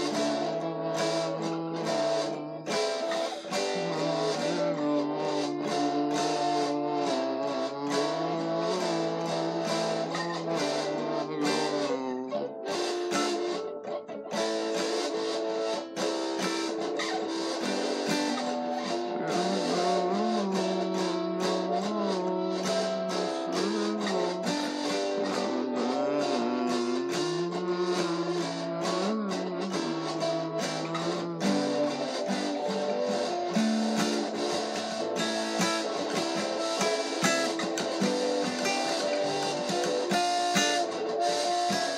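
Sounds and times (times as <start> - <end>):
acoustic guitar playing: 0.0 - 41.9.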